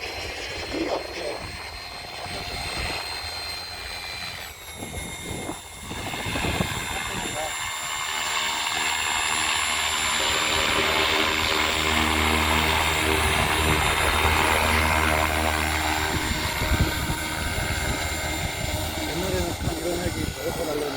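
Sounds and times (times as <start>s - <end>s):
motor whine: 0.0s - 20.9s
rc helicopter rotor buzz: 0.0s - 20.9s.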